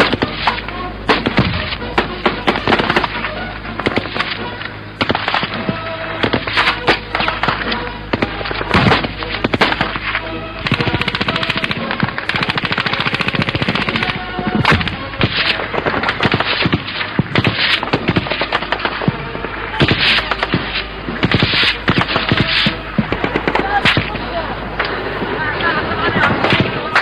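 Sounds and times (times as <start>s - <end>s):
automatic machine-gun fire: 0.0s - 24.2s.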